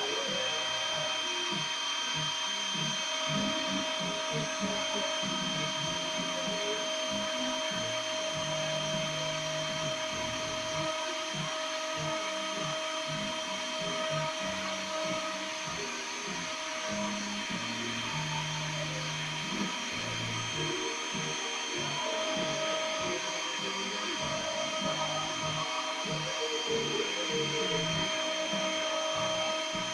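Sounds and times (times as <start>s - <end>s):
spindle high whine: 0.0s - 29.9s
stepper motors humming: 0.0s - 29.9s.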